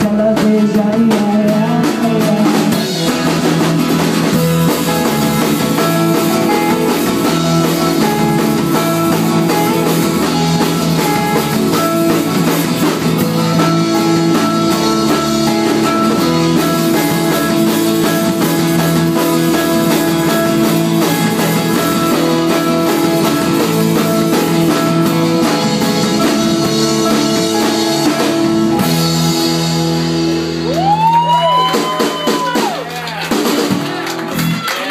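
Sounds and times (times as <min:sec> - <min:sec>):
strummed acoustic guitars: 0:00.0 - 0:30.7
drum kit: 0:00.0 - 0:34.9.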